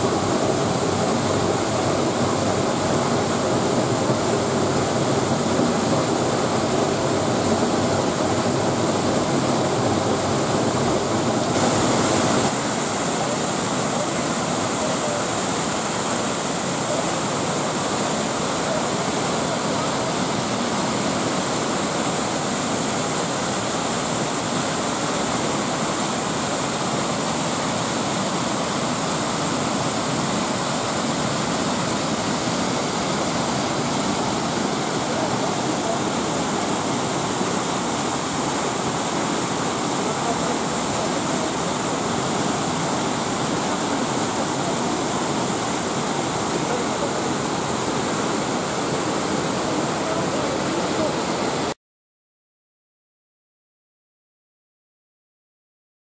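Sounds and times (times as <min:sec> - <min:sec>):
river cascades into pool: 0:00.0 - 0:51.8
waterfall rushing: 0:00.0 - 0:51.8.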